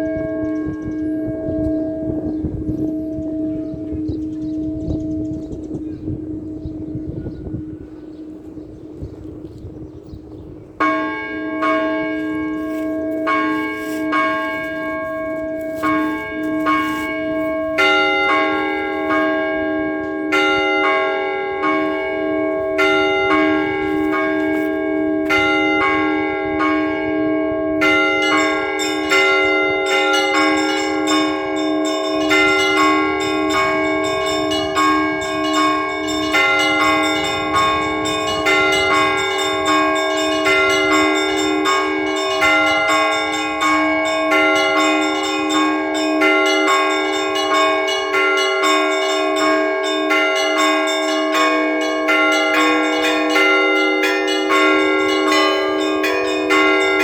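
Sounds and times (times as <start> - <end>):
church bells pealing: 0.0 - 57.0
low bell tolling: 0.0 - 57.0.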